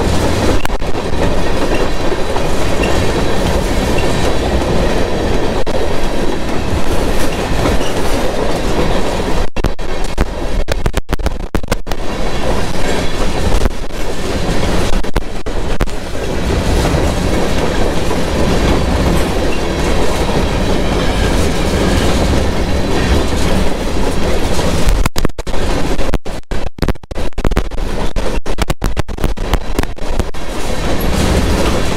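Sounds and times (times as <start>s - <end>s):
clickety-clack over rail joints: 0.0s - 11.0s, 11.6s - 26.6s, 27.3s - 31.9s
freight train wheels rumbling on rails: 0.0s - 31.9s
wind-reduction crackle: 0.0s - 31.9s.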